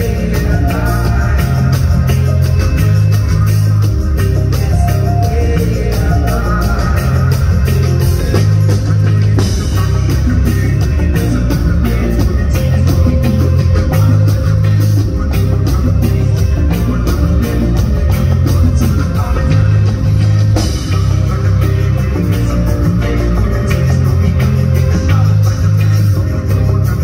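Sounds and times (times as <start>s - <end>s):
deep bass line: 0.0s - 27.0s
drum kit beat: 0.0s - 27.0s
electric guitar: 0.0s - 27.0s
man singing: 0.0s - 27.0s.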